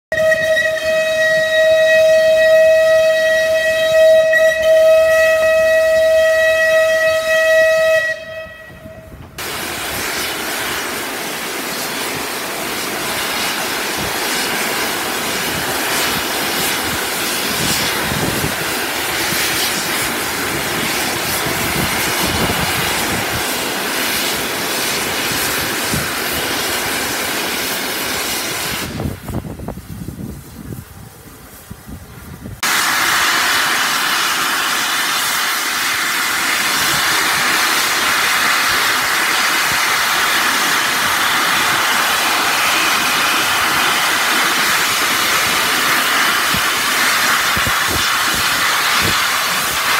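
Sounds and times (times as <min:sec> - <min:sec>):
steam locomotive whistle: 0:00.1 - 0:10.9, 0:11.7 - 0:27.3, 0:32.6 - 0:49.9
safety valves hissing steam: 0:09.2 - 0:30.9, 0:31.5 - 0:49.9.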